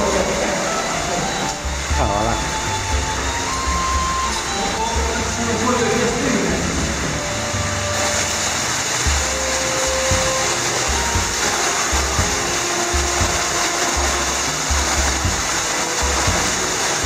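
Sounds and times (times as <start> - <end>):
water rushing in cave: 0.0 - 17.0.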